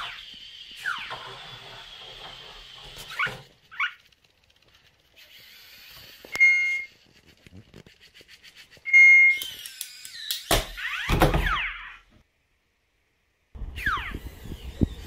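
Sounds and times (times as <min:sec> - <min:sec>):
robot toy whirring: 0:00.0 - 0:11.8, 0:13.8 - 0:15.0.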